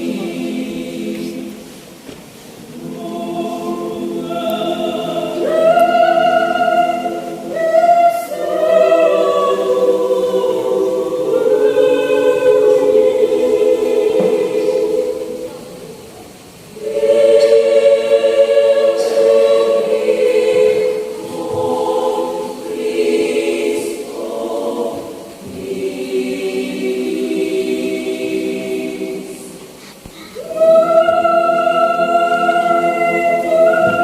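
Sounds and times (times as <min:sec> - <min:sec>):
choir singing choral piece: 0:00.0 - 0:34.0.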